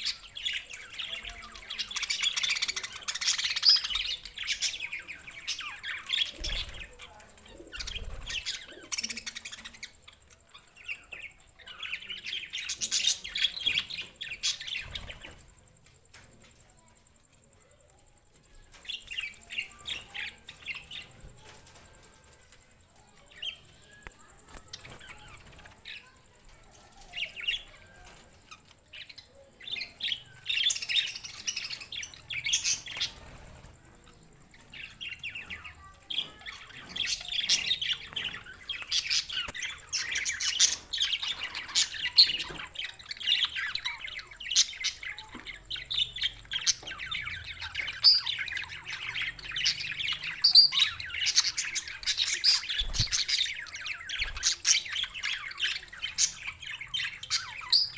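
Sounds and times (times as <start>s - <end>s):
budgerigars chirping and chattering: 0.0s - 16.2s, 23.0s - 57.9s.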